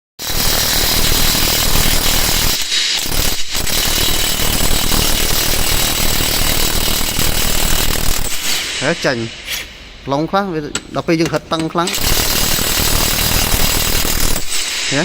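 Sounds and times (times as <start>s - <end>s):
impact wrench hammering: 0.2s - 9.2s, 10.7s - 15.0s.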